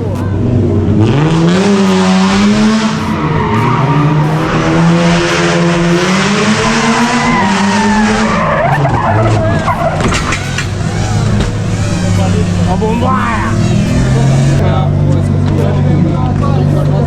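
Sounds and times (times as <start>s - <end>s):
car engine revving: 0.0s - 17.0s
tyres skidding and squealing: 0.0s - 17.0s.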